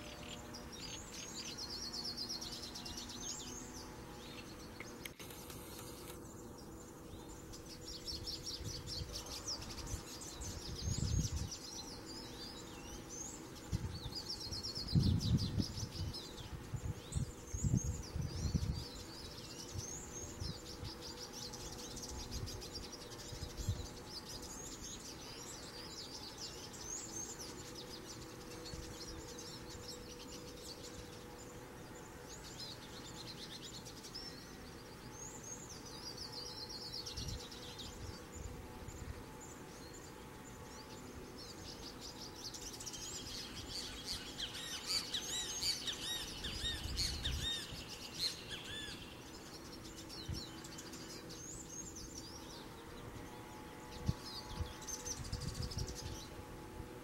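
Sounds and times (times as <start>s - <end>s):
bird singing twittering trills: 0.0s - 57.0s
faint steady hum: 0.0s - 57.0s.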